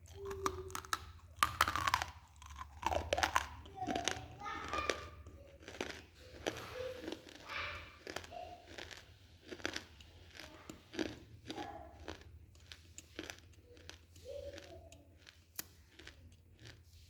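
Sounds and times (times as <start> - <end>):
chewing crunchy clay: 0.0 - 17.0.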